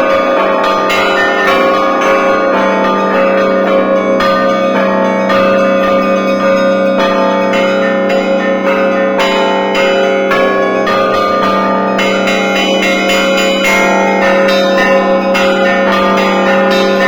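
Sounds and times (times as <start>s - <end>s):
hum of large bells: 0.0s - 17.0s
small high bells ringing: 0.0s - 17.0s.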